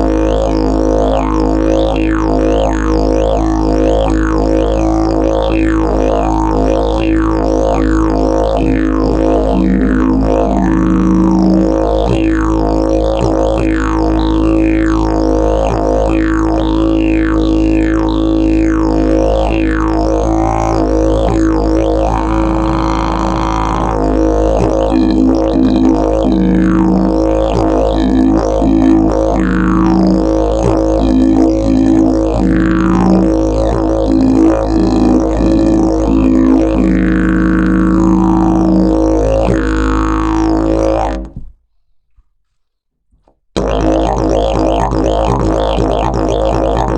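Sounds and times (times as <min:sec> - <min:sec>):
didgeridoo drone: 0:00.0 - 0:41.3, 0:43.6 - 0:46.9
short higher didgeridoo notes: 0:00.0 - 0:41.3, 0:43.6 - 0:46.9.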